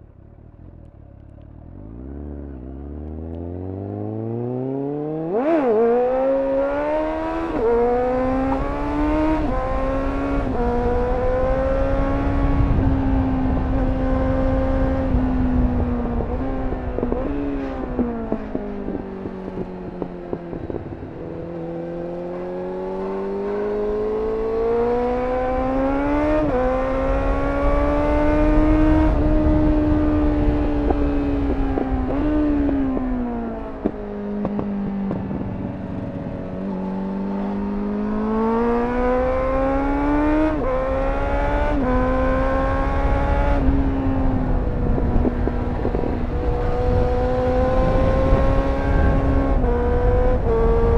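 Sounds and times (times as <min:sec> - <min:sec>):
motorcycle engine revving: 0:00.0 - 0:50.9
wind on microphone: 0:07.2 - 0:22.1, 0:23.5 - 0:50.9.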